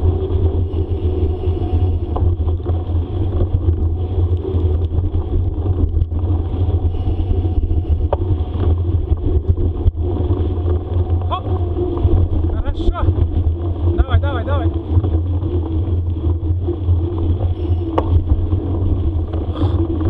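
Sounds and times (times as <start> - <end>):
bicycle tyres on dirt trail: 0.0 - 20.0
wind rumble on microphone: 0.0 - 20.0.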